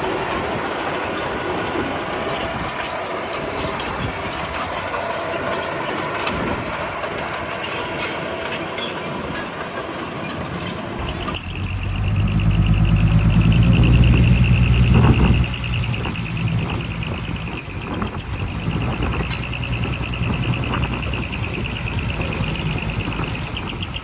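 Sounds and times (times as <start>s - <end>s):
bulldozer engine: 0.0s - 24.0s
steel tracks clanking and squealing: 0.0s - 24.0s.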